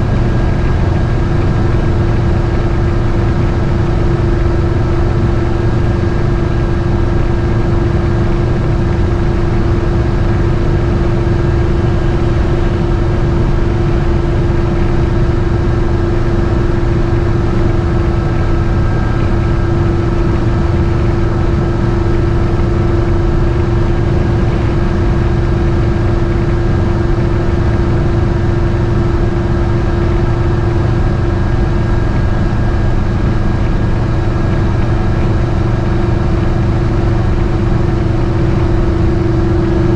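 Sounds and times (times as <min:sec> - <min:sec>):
engine hum inside cabin: 0:00.0 - 0:39.9.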